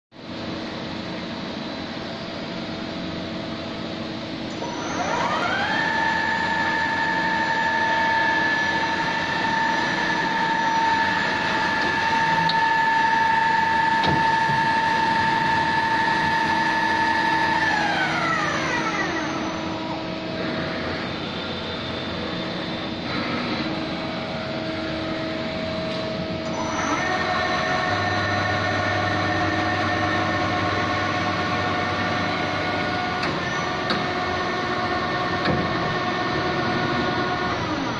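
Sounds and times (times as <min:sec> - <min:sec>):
machine hum with low drone: 0:00.1 - 0:37.9
lathe spindle whine: 0:01.1 - 0:37.9.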